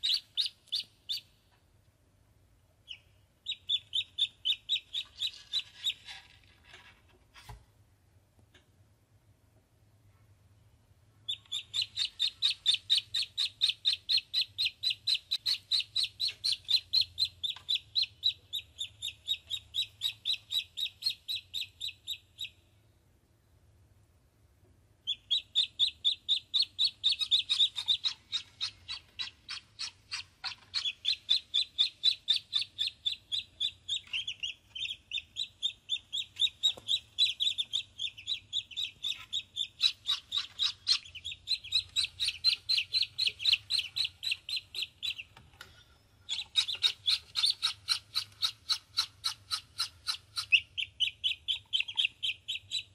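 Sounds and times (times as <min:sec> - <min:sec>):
ducklings peeping: 0:00.0 - 0:01.5, 0:02.8 - 0:06.2, 0:11.2 - 0:22.7, 0:25.0 - 0:52.9.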